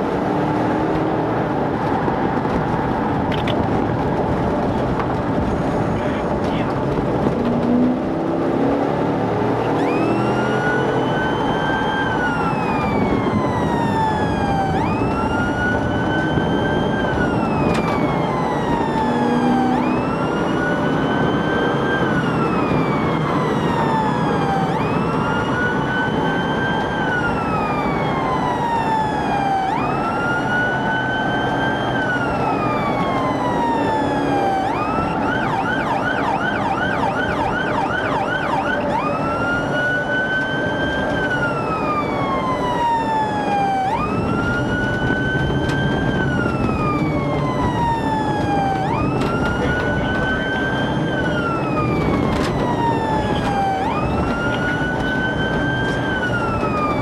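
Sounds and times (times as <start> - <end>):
engine and road noise: 0.0 - 57.0
police siren wailing and yelping: 8.8 - 57.0.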